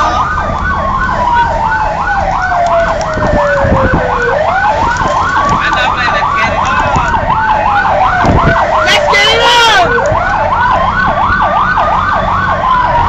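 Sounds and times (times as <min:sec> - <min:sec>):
fire engine siren yelp and wail: 0:00.0 - 0:13.0.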